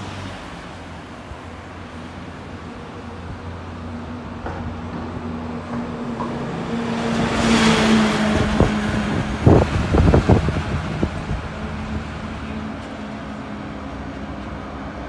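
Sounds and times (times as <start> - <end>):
truck driving past: 0.0 - 15.0.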